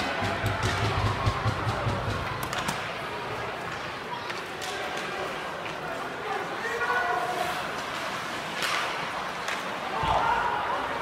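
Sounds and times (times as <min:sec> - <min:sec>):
arena crowd hubbub: 0:00.0 - 0:11.0.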